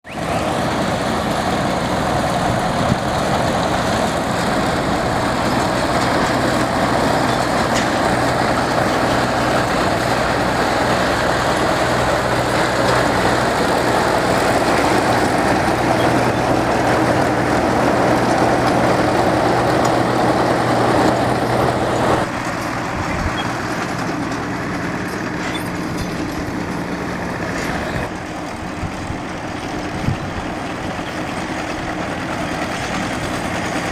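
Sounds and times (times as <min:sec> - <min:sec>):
heavy engine humming: 0:00.0 - 0:33.9.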